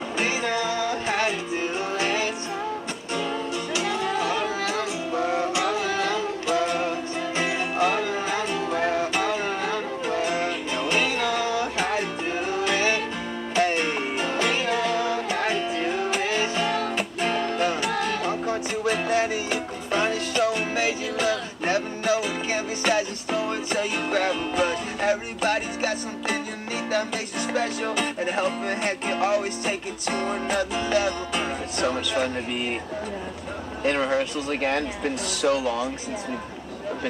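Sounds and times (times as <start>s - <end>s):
person singing: 0.0s - 32.6s
strummed acoustic guitar: 0.0s - 37.0s.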